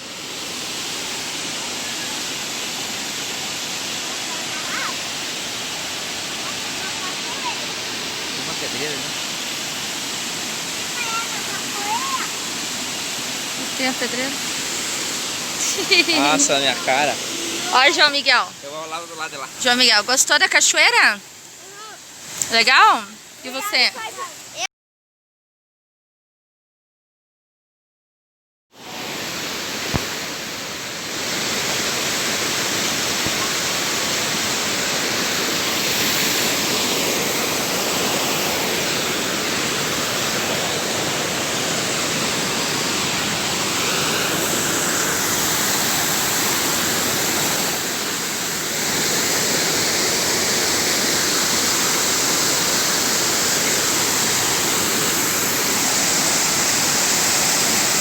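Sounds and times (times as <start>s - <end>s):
waterfall pouring: 0.0s - 24.6s, 28.9s - 58.0s.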